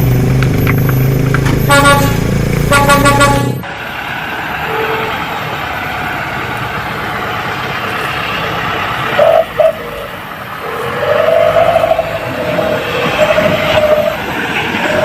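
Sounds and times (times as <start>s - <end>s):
truck and traffic rumble: 0.0s - 15.0s.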